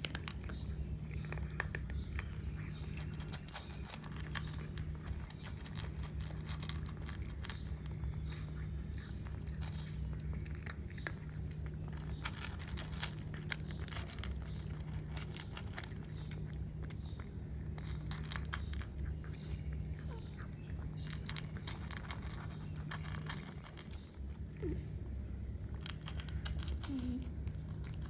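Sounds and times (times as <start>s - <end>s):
cat chewing crunchy food: 0.0s - 28.0s
steady low hum: 0.0s - 28.0s.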